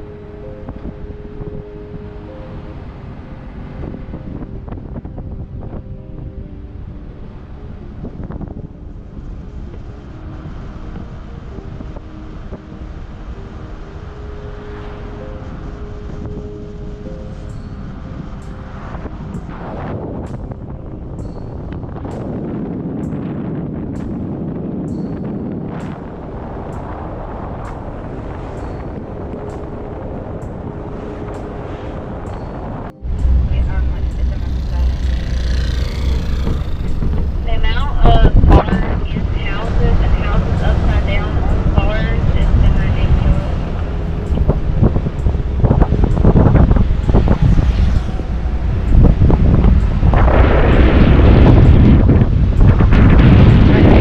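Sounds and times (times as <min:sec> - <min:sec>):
steady low rumble: 0:00.0 - 0:54.0
wind buffeting microphone: 0:00.0 - 0:54.0.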